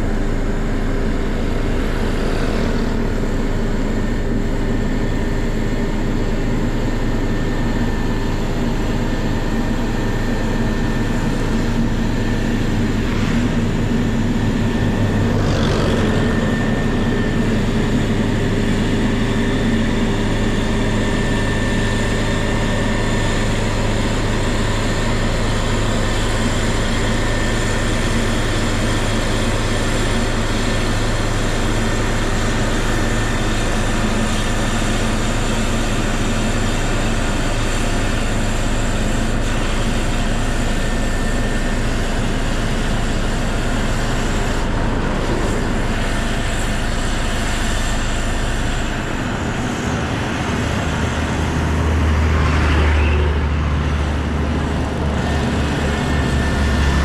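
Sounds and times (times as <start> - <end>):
heavy diesel machinery engine drone: 0.0 - 57.0
thin steady whine: 0.0 - 57.0.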